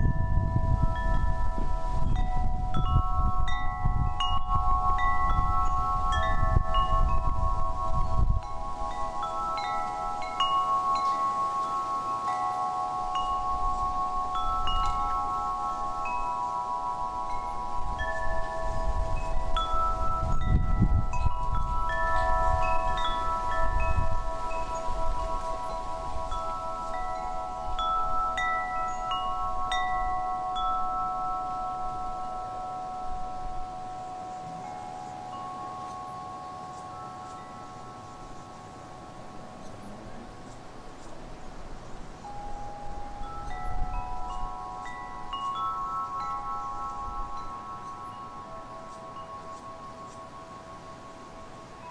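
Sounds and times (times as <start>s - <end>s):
wind chimes ringing: 0.0s - 51.9s.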